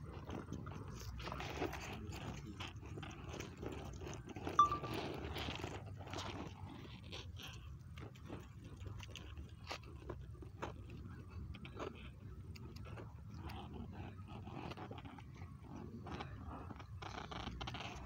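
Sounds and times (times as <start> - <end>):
rabbit scratching soil: 0.0 - 18.0.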